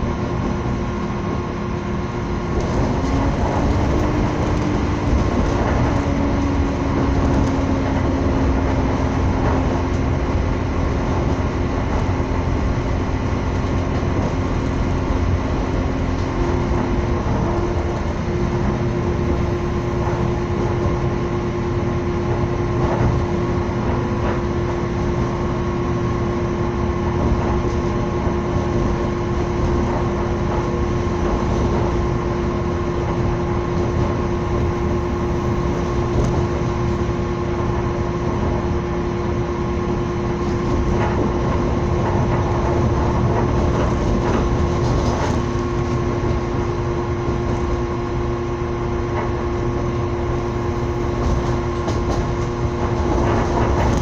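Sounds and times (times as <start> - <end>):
constant hum: 0.0 - 54.0
train wheels rumbling on rails: 0.0 - 54.0.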